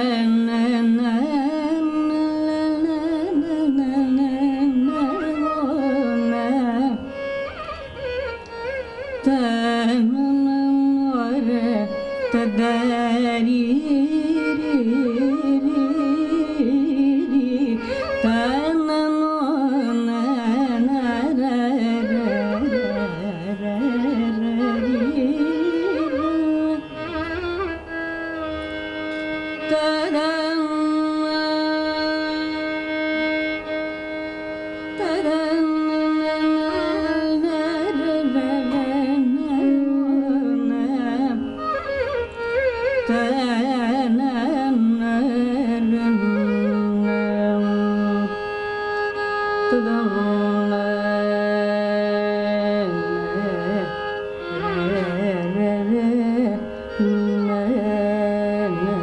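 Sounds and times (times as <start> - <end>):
woman singing ornamented melody: 0.0 - 7.3, 9.1 - 27.7, 29.4 - 33.6, 34.9 - 42.4, 43.0 - 48.5, 49.2 - 59.0
violin: 0.0 - 59.0.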